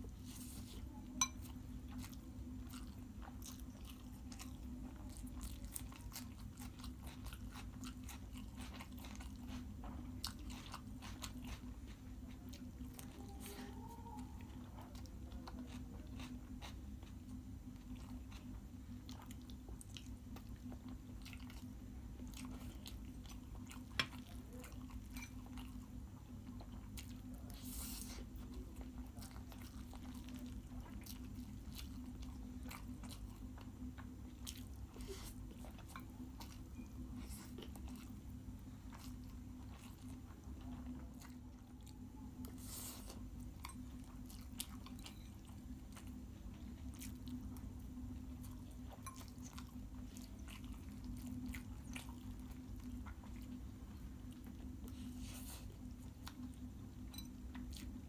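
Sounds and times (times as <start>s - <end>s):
steady low hum: 0.0s - 58.0s
wet chewing and mouth clicks: 1.2s - 58.0s.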